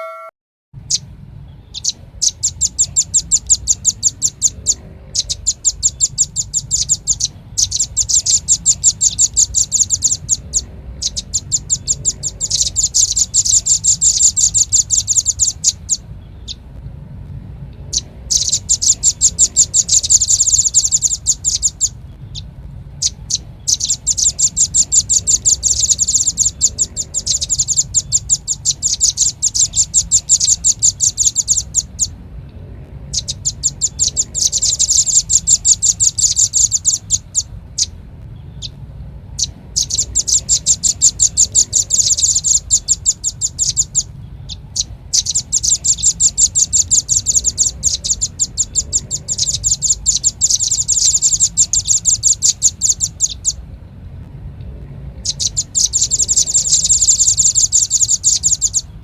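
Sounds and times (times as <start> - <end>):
bird calling sharp high chips: 0.0 - 0.3, 0.9 - 16.7, 17.9 - 32.2, 33.1 - 53.6, 55.2 - 59.0
steady low hum: 0.0 - 59.0.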